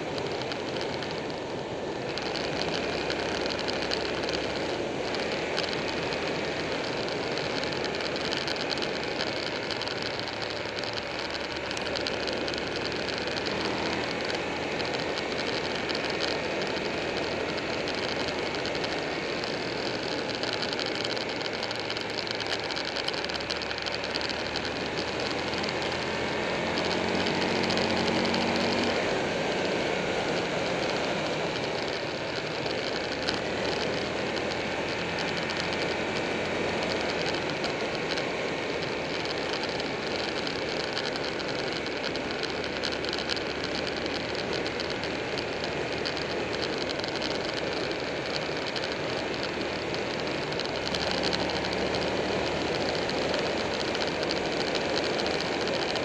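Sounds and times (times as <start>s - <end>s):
motorcycle engine running: 0.0s - 56.0s
wind rushing over camera: 0.0s - 56.0s.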